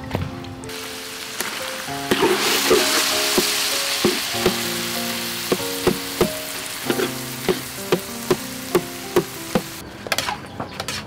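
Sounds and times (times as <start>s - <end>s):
food sizzling in a wok: 0.7s - 9.8s.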